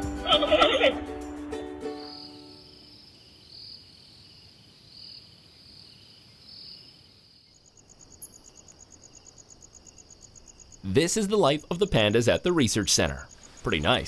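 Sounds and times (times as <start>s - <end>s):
crickets chirping: 1.9s - 14.0s
pulsing insect trill: 1.9s - 14.0s.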